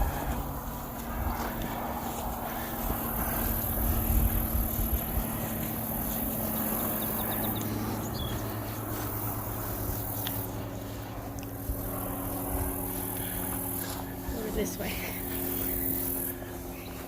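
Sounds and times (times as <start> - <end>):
high insect drone: 0.0 - 17.0
wind rumble on microphone: 0.0 - 17.0.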